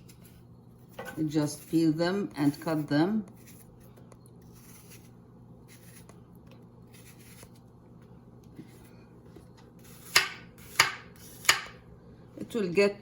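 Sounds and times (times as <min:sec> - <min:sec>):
knife scraping apples: 0:00.0 - 0:07.7, 0:08.5 - 0:11.8.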